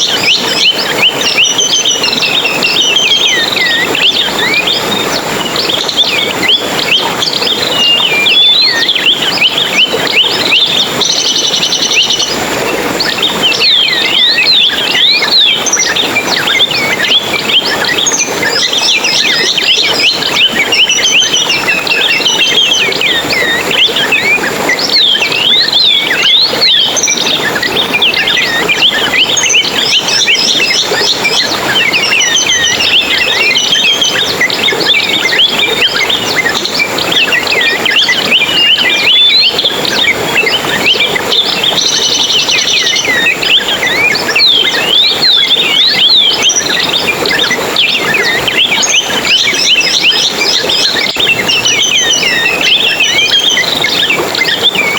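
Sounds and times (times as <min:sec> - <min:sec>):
songbirds chirping and twittering: 0:00.0 - 0:54.9.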